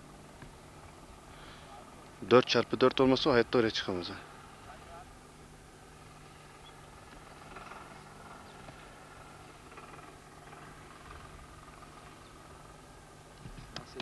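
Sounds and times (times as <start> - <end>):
faint vehicle engine hum: 0.0 - 14.0.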